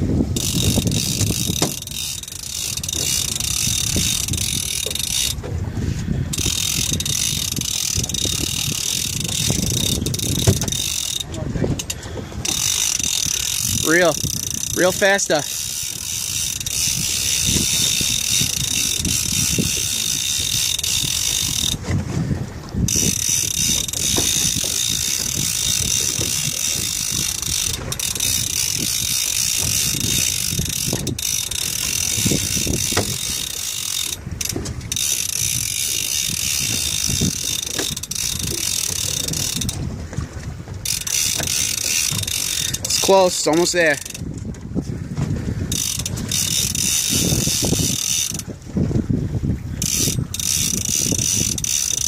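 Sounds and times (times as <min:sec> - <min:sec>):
outboard motor rumble: 0:00.0 - 0:52.0
fishing reel ratcheting whirr: 0:00.2 - 0:44.6, 0:45.4 - 0:49.0, 0:49.7 - 0:52.0.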